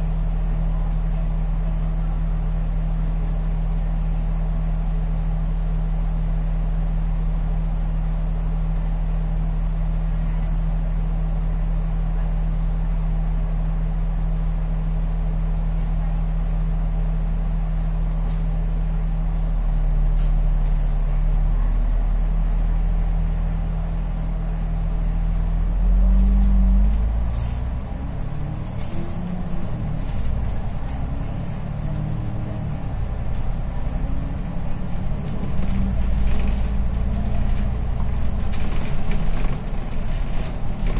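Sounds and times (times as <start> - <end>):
bus engine idling: 0.0 - 40.9.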